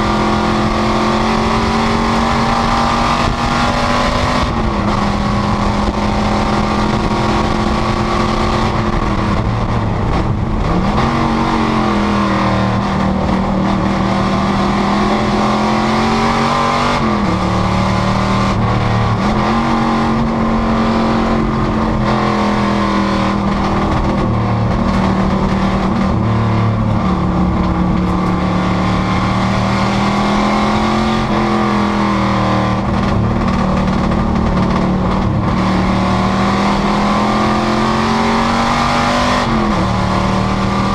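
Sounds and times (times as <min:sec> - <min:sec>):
race car engine running hard: 0:00.0 - 0:40.9.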